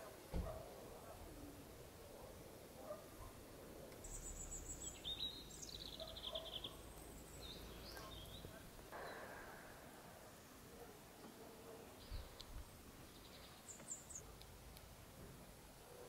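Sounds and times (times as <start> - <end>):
small birds singing: 0.0 - 14.5.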